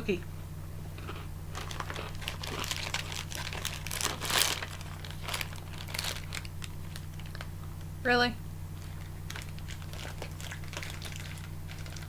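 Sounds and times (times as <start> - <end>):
steady low hum: 0.0 - 12.0
candy wrapper crinkling: 1.0 - 7.5, 8.8 - 12.0.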